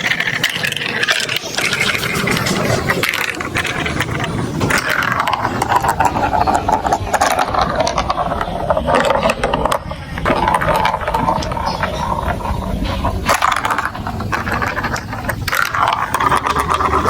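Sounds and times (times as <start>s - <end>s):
marbles clicking on plastic: 0.0s - 17.0s
marbles rolling rumble: 0.0s - 17.0s.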